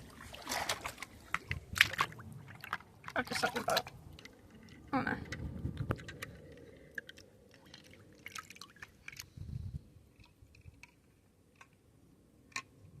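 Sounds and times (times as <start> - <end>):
water splashes and drips: 0.0 - 11.8.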